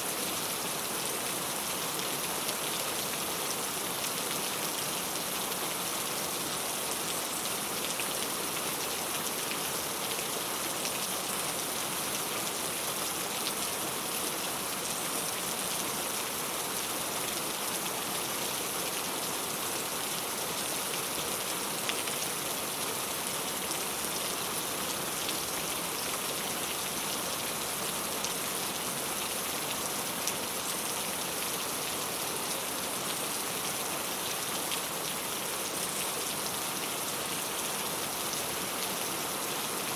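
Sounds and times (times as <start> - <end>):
rain on a tile roof: 0.0 - 39.9.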